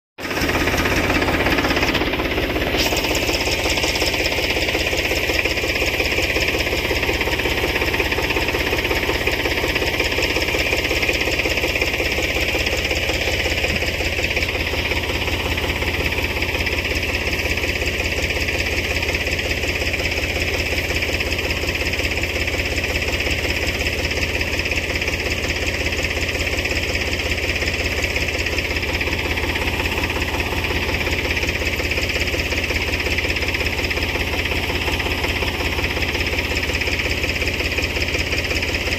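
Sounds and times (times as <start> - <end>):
tractor engine running: 0.2 - 38.9.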